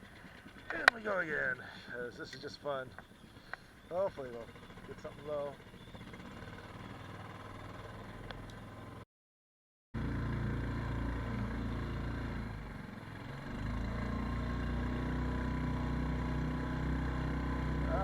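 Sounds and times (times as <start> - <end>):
boat engine humming: 0.0 - 9.0, 10.0 - 18.0.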